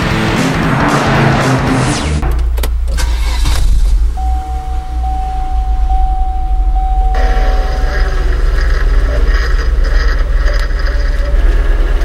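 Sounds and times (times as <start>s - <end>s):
car engine idling: 2.2s - 12.0s
power steering pump groaning: 2.3s - 12.0s.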